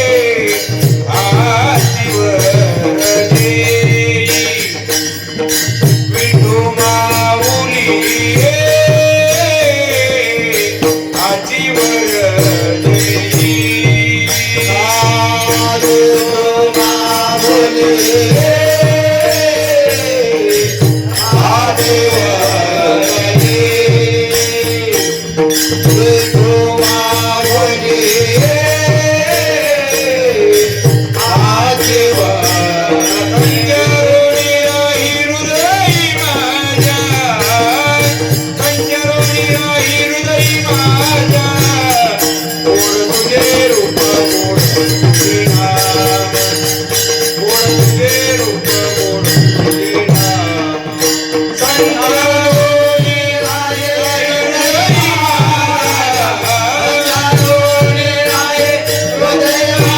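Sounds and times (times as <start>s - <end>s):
hand drum beating: 0.0s - 59.9s
jingling percussion: 0.0s - 59.9s
man singing devotional melody: 0.0s - 59.9s.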